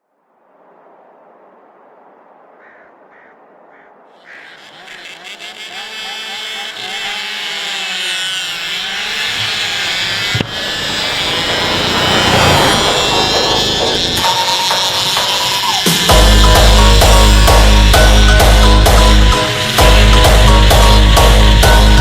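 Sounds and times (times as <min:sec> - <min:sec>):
motorcycle engines revving: 0:04.2 - 0:22.0.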